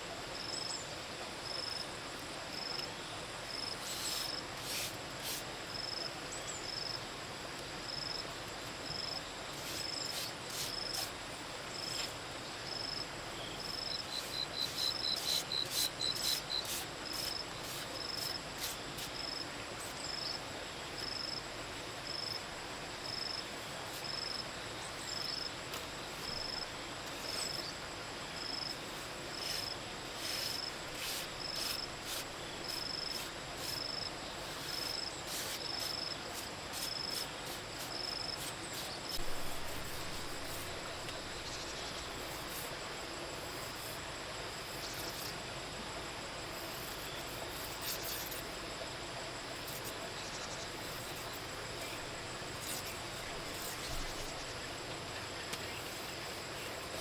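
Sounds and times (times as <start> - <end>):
insect chirping: 2.5 - 7.1, 7.8 - 57.0
even hiss: 8.0 - 57.0.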